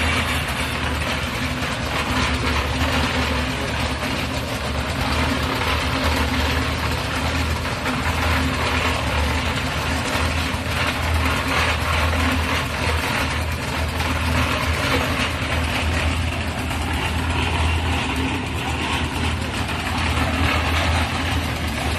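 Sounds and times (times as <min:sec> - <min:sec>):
machinery engine humming: 0:00.0 - 0:21.9.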